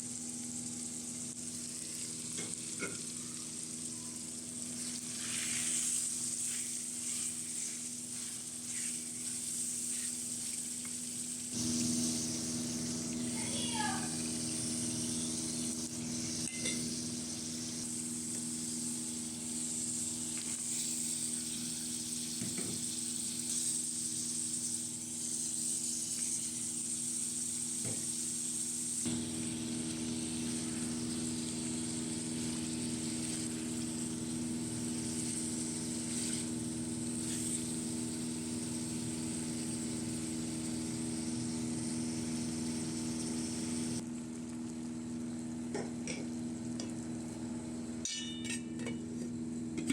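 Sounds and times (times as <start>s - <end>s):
food sizzling in a pan: 0.0s - 49.9s
steady low hum: 0.0s - 49.9s.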